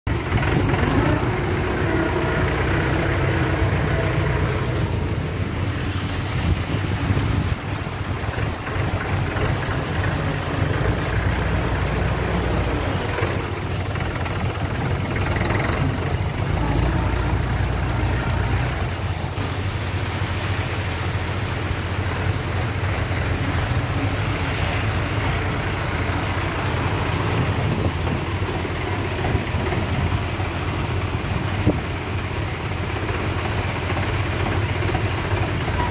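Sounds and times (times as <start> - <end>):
tractor diesel engine droning: 0.1 - 35.9.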